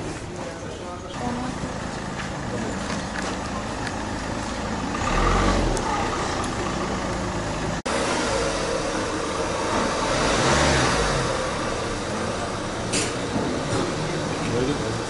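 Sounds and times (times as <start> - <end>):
van engine driving slowly: 0.0 - 15.0
vehicle engine: 0.0 - 15.0.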